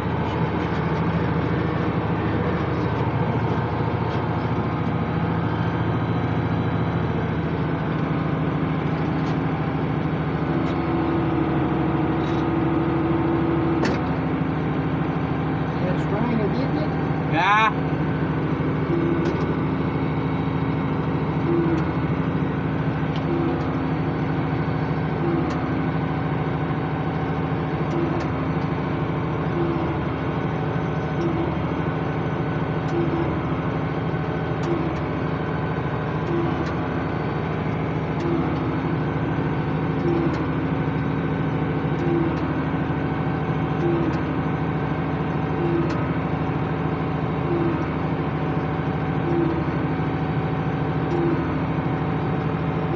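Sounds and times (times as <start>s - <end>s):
diesel tractor engine running: 0.0s - 52.9s
hay baler beat: 0.0s - 52.9s.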